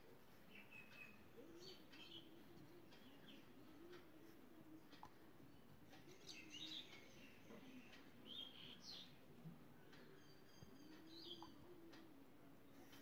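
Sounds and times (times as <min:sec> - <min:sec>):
faint small birds chirping: 0:00.0 - 0:13.0.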